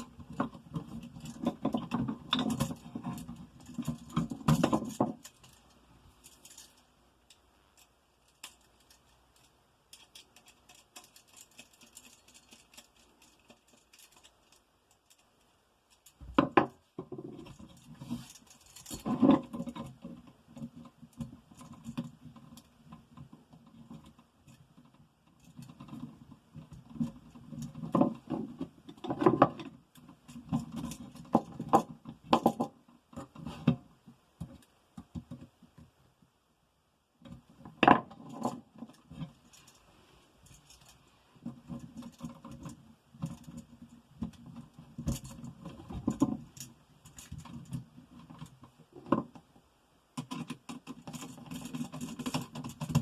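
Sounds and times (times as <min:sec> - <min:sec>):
clicks and rustling of wiring: 0:00.0 - 0:36.0, 0:37.2 - 0:49.6, 0:50.2 - 0:53.0.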